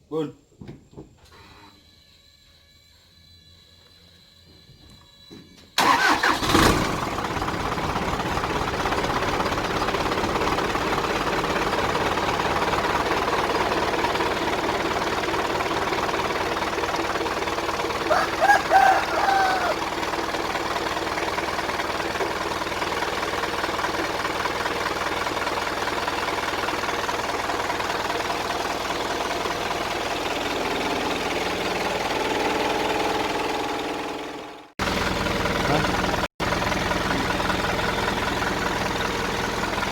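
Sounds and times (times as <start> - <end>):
diesel engine starting and idling: 5.7 - 39.9.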